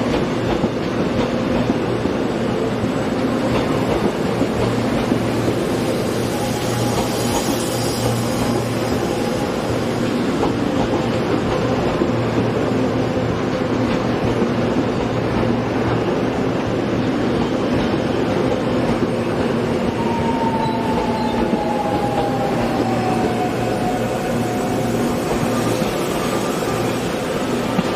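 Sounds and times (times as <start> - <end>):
electric train rumbling past: 0.0 - 27.9
falling train whine: 0.0 - 27.9.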